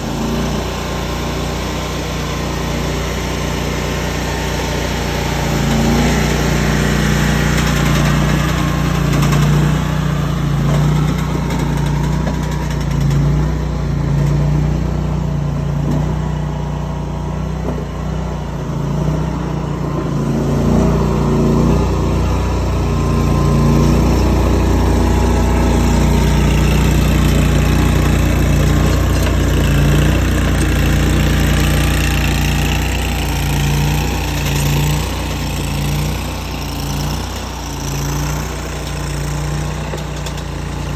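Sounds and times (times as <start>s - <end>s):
skid steer engine running: 0.0s - 40.9s.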